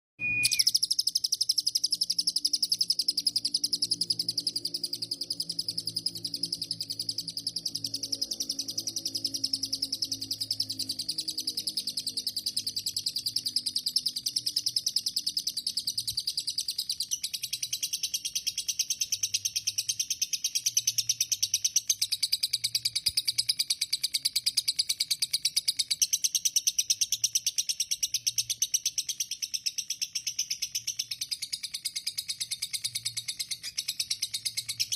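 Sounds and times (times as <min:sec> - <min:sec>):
lovebird chirping rapidly: 0:00.2 - 0:34.9.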